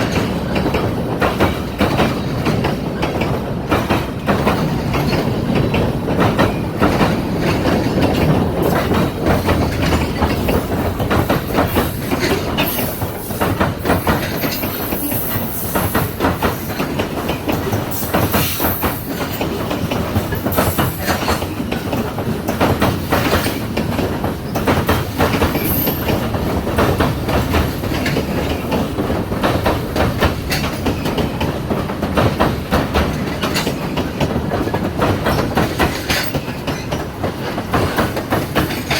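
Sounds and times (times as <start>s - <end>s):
train rumble: 0.0s - 38.9s
train wheels clicking over rail joints: 0.0s - 38.9s.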